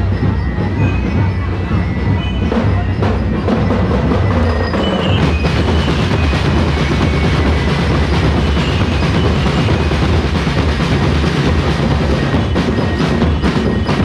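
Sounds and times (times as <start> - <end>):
drums: 0.0 - 14.0
wood-block-like clacks: 0.0 - 14.0.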